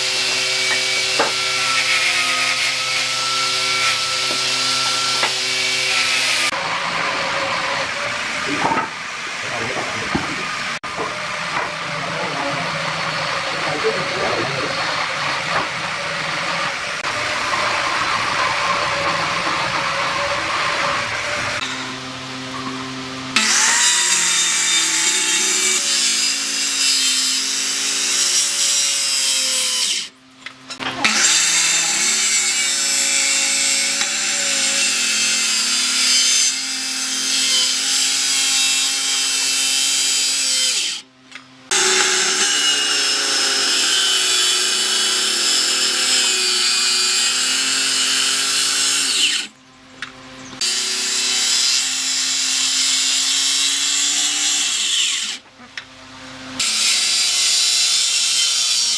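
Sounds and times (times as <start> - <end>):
circular saw cutting wood: 0.0 - 58.9.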